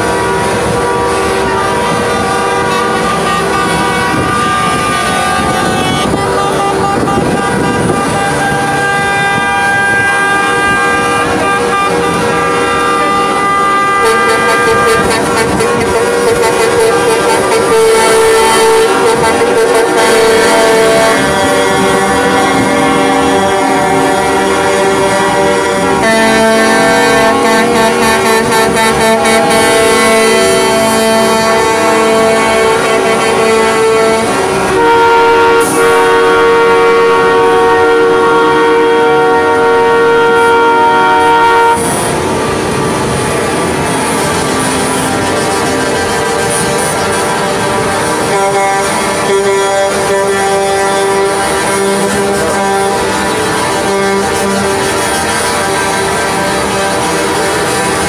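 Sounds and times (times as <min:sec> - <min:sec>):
truck air horns and car horns honking: 0:00.0 - 0:58.0.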